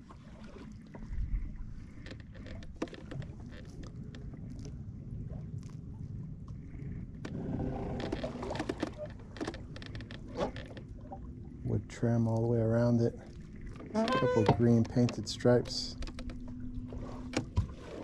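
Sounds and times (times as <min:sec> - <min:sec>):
water splashing and lapping: 0:00.0 - 0:18.0
wind rumble on microphone: 0:00.0 - 0:18.0.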